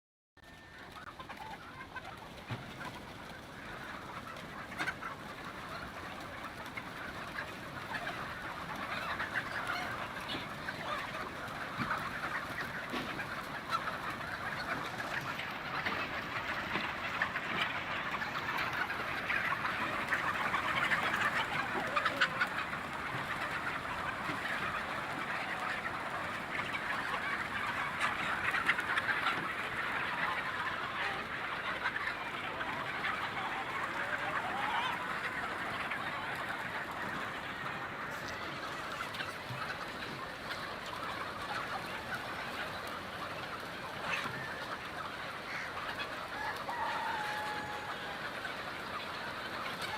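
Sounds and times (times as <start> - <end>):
chickens clucking: 0.4 - 49.9.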